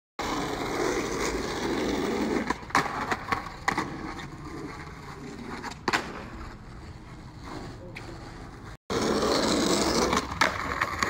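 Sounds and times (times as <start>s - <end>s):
skateboard wheels rolling on asphalt: 0.2s - 11.0s
skateboard clacks: 2.0s - 11.0s.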